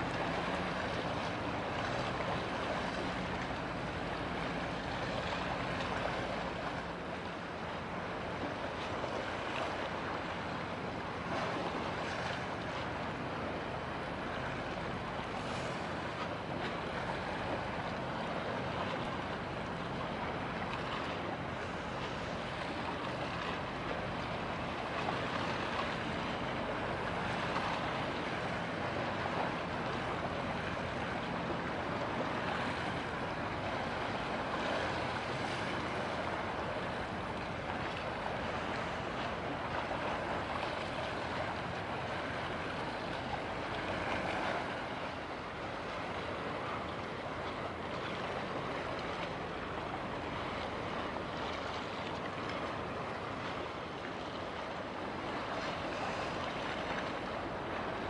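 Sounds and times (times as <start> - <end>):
water rushing: 0.0 - 58.0
wind: 0.0 - 58.0.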